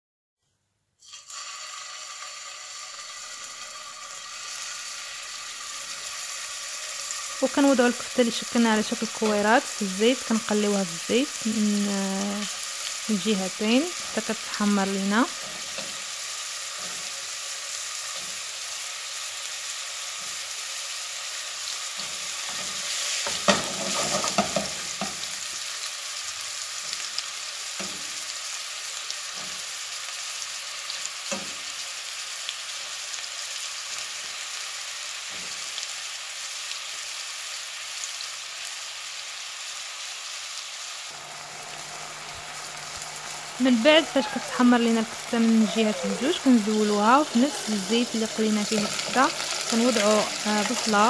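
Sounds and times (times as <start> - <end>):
meatballs sizzling in oil: 1.0 - 51.0.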